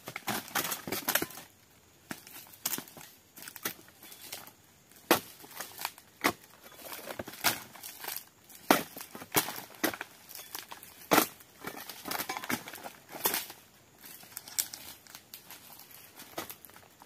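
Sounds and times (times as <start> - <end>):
fibrous stalks crackling: 0.0 - 17.0.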